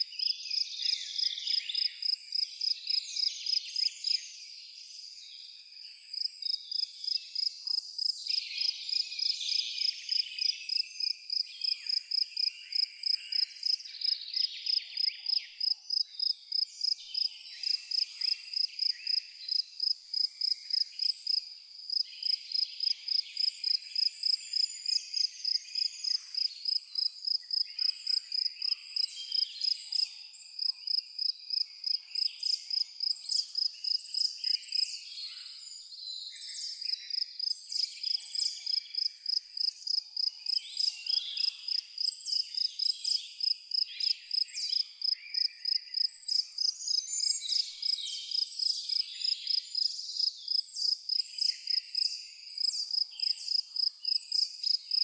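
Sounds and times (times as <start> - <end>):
cricket chirping: 0.0 - 4.2, 6.1 - 35.5, 36.7 - 55.0.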